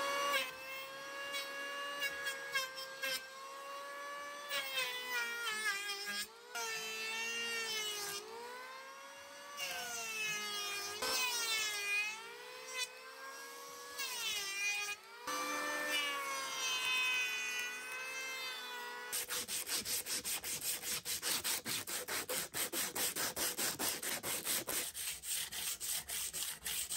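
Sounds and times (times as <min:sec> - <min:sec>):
electric hand planer cutting wood: 0:00.0 - 0:26.9.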